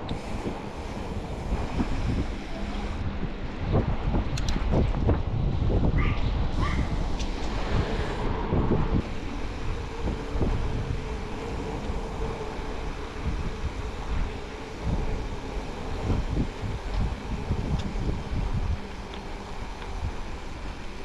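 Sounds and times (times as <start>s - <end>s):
low road rumble: 0.0s - 21.0s
wind buffeting microphone: 0.0s - 21.0s.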